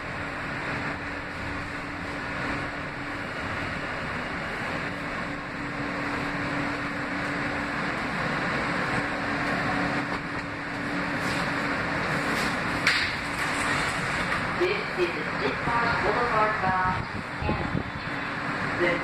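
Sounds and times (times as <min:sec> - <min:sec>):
steady hum: 0:00.0 - 0:19.0
train wheel-on-rail rumble: 0:00.0 - 0:19.0.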